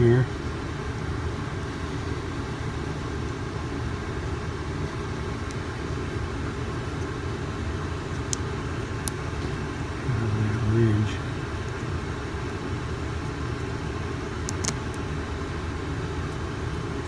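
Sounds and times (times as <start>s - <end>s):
air conditioner drone: 0.0s - 17.0s.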